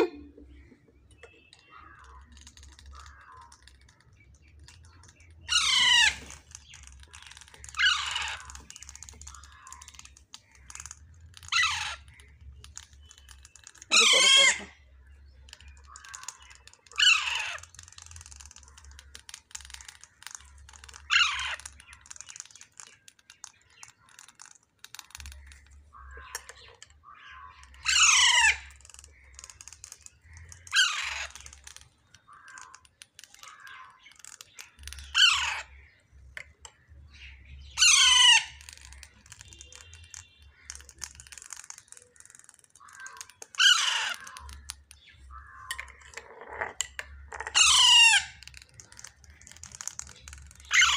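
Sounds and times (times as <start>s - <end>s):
parakeet chicks begging cries: 5.0s - 22.1s, 25.2s - 36.1s, 37.6s - 50.9s.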